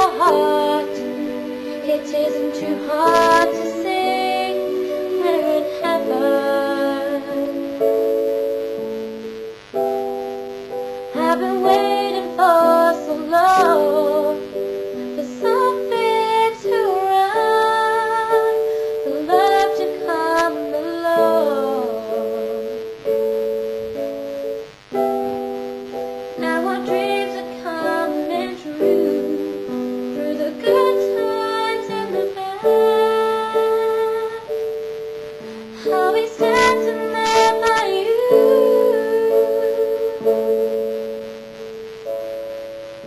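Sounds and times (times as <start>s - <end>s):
keyboard chords: 0.0s - 43.0s.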